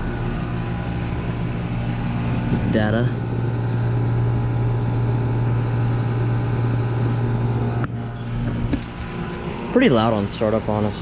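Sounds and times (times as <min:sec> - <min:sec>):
compressor hum: 0:00.0 - 0:11.0
condenser fan whirring: 0:00.0 - 0:11.0.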